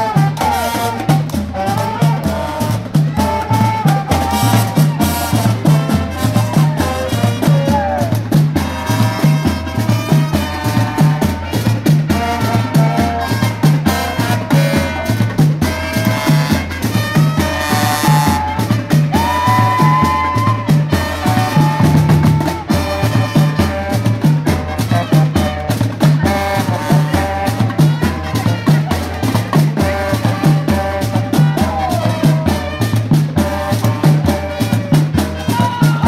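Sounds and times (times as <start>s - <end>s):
bass drums and snare drums: 0.0s - 36.0s
trumpets and saxophones: 0.0s - 36.0s
tuba bass line: 0.0s - 36.0s.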